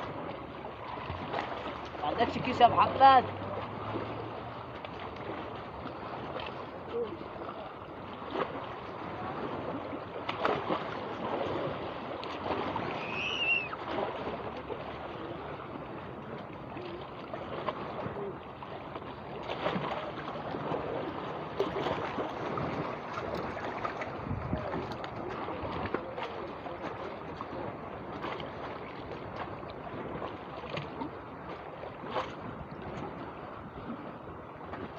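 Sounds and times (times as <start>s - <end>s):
rushing noise aboard boat: 0.0s - 34.9s.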